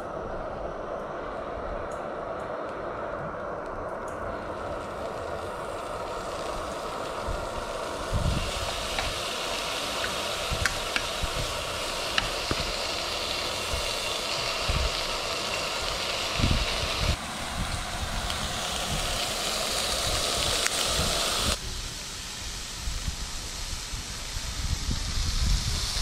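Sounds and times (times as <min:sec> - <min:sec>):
low hum: 0:00.0 - 0:26.0
meat sizzling in a frying pan: 0:04.4 - 0:26.0.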